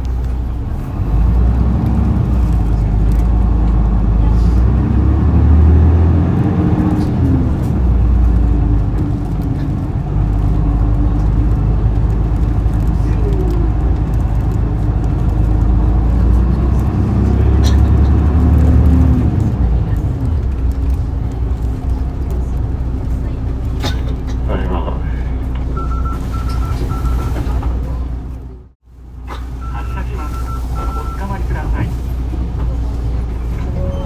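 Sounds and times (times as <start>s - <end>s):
bus diesel engine running: 0.0s - 34.0s
faint passenger voices: 0.0s - 34.0s.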